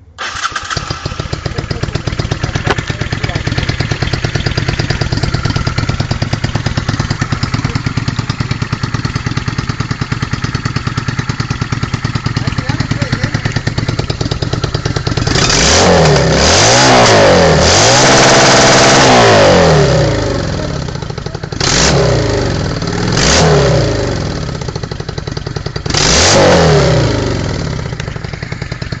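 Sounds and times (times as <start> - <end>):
motorcycle idling and revving: 0.0 - 29.0.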